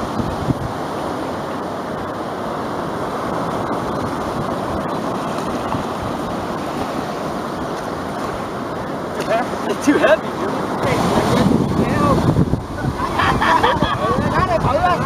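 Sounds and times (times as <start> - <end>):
surf breaking on beach: 0.0 - 15.0.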